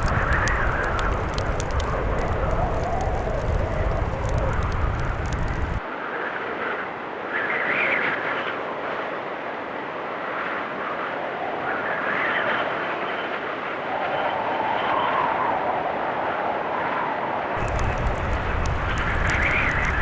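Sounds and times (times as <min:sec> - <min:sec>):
blizzard wind howling in gusts: 0:00.0 - 0:20.0.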